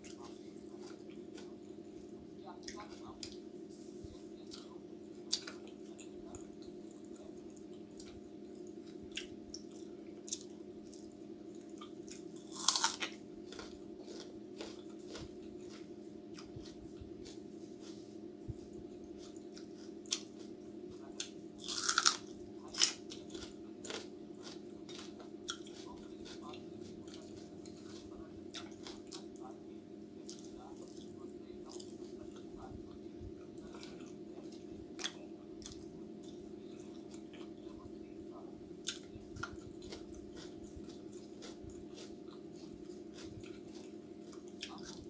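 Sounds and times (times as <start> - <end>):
chewing and crunching food: 0.0 - 45.0
steady low hum: 0.0 - 45.0.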